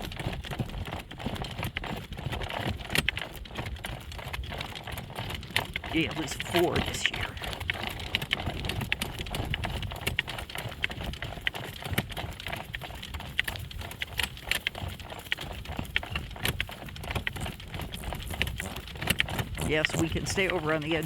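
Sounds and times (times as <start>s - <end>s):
horse hooves clip-clopping on road: 0.0s - 21.0s.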